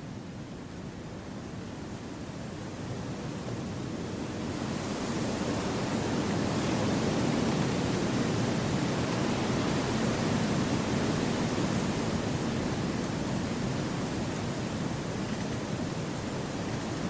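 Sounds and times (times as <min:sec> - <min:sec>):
wind through trees: 0:00.0 - 0:17.0.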